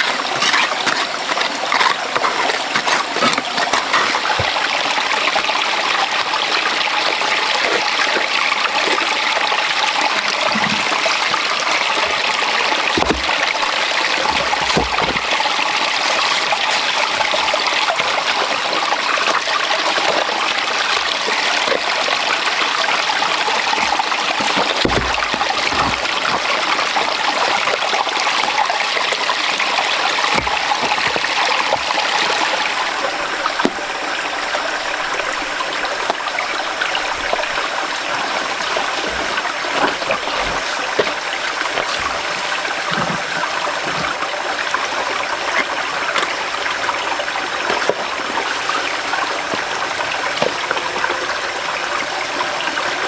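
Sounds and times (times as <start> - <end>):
stream rushing water: 0.0 - 53.0.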